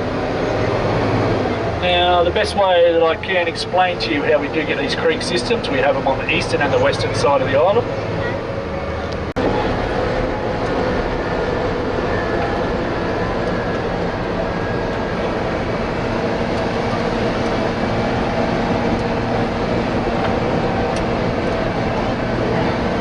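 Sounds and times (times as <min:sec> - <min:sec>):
bus engine droning: 0:00.0 - 0:23.0
road noise: 0:00.0 - 0:23.0.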